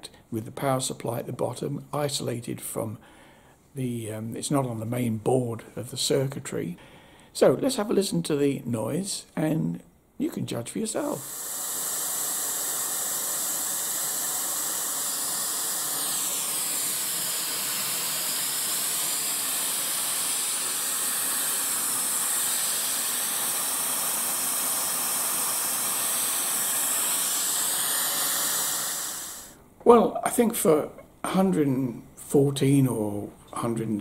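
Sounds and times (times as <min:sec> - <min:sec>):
white noise hiss from speaker: 0:00.0 - 0:24.3, 0:27.5 - 0:34.0.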